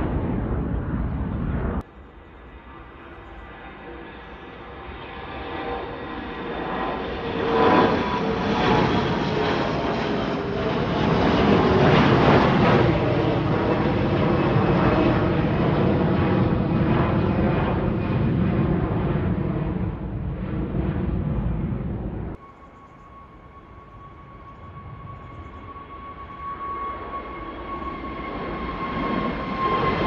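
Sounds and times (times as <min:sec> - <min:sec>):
airliner engines roaring: 0:00.0 - 0:30.0.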